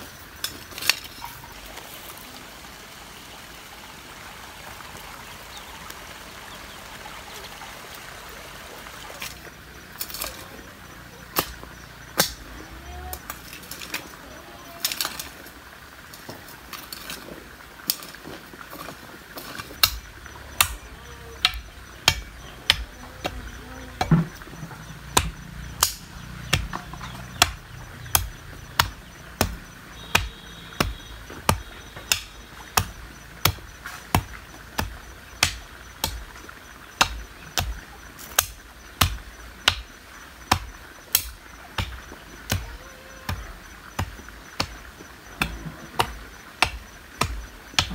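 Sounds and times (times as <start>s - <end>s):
hoe striking clay soil: 0.0s - 1.8s, 9.0s - 15.5s, 16.1s - 47.9s
insects buzzing faintly: 0.0s - 47.9s.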